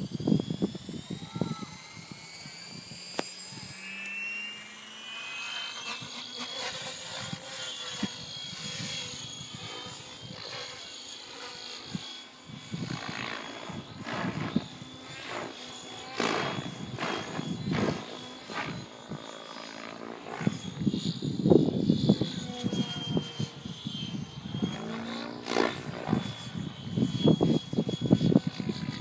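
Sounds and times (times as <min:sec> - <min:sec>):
electric helicopter motor whine: 0:00.0 - 0:29.0
rotor blades whirring: 0:00.0 - 0:29.0.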